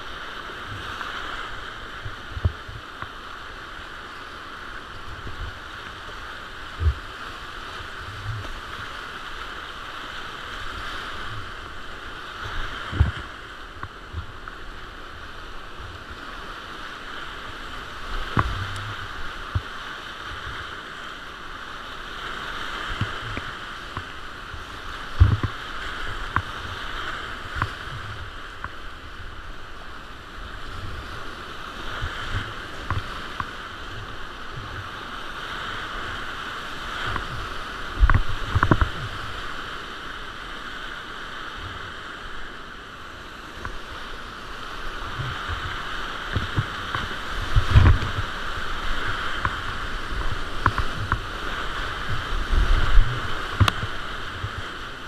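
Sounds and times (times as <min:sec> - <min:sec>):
whitewater rapids rushing: 0:00.0 - 0:55.0.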